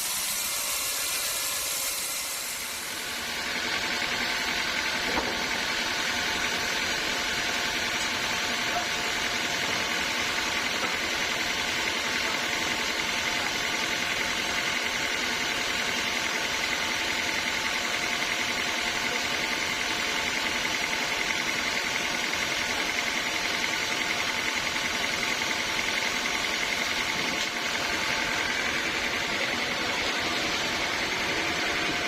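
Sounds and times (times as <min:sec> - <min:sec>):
high machine whine: 0:00.0 - 0:32.0
sawmill machinery drone: 0:00.0 - 0:32.0.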